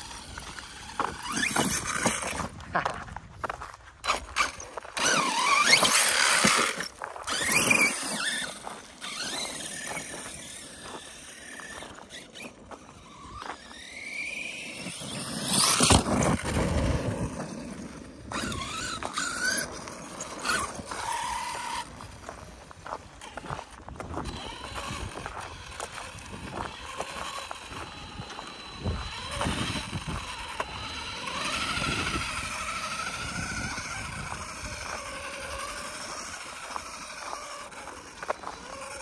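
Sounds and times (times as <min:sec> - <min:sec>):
rc truck motor whining: 0:00.0 - 0:02.6, 0:04.0 - 0:39.0
tyres on gravel and dirt: 0:00.0 - 0:39.0.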